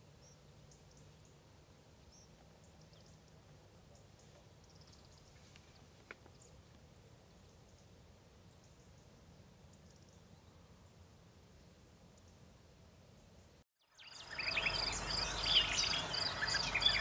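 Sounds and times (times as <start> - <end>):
small birds chirping: 0.0 - 11.0, 13.1 - 17.0.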